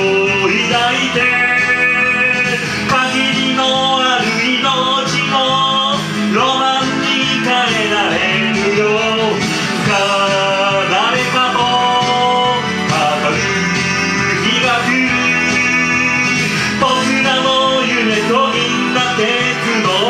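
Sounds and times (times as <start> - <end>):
guitar band song with sliding melody: 0.0 - 20.0.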